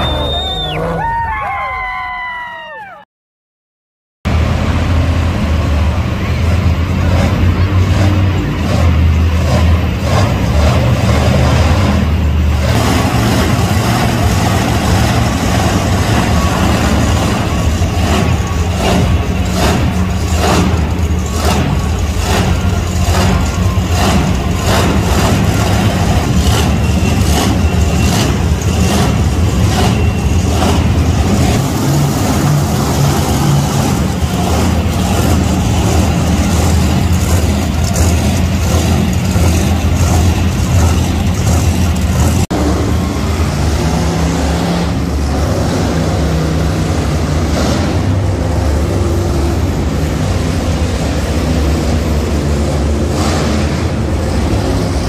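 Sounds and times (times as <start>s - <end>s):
monster truck engines revving: 0.0s - 3.0s, 4.3s - 55.0s.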